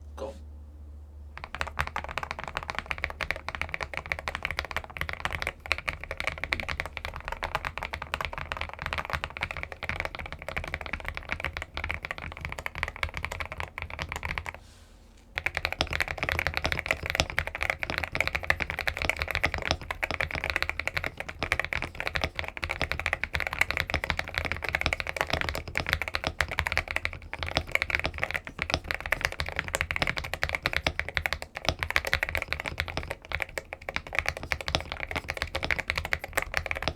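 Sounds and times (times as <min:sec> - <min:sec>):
typing on mechanical keyboard: 0:01.4 - 0:14.6, 0:15.4 - 0:36.9.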